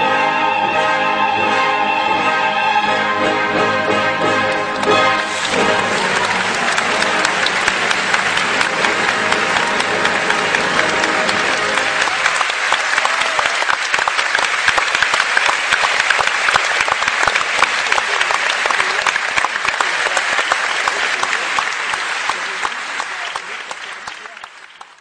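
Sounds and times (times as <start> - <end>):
audience applauding: 4.4 - 25.0.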